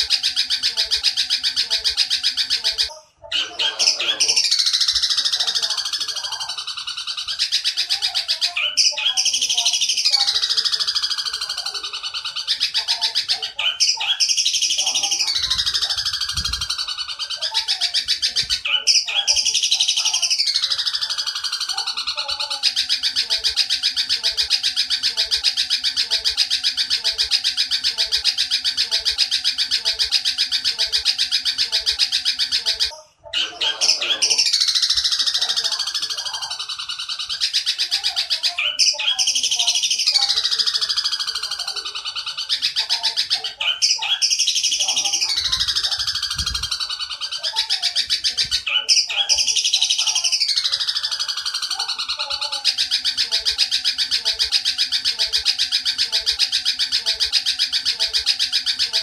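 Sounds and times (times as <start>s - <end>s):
bird chattering: 0.0s - 59.0s.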